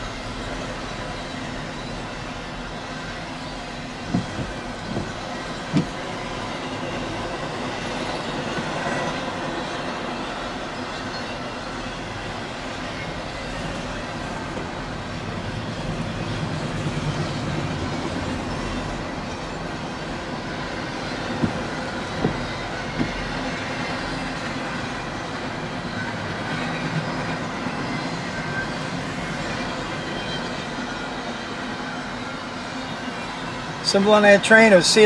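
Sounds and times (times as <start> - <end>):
freight train wheels rumbling on rails: 0.0 - 35.0.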